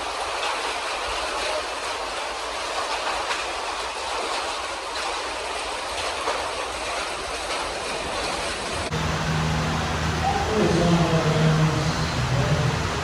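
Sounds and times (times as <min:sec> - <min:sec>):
heavy rain and wind: 0:00.0 - 0:13.0.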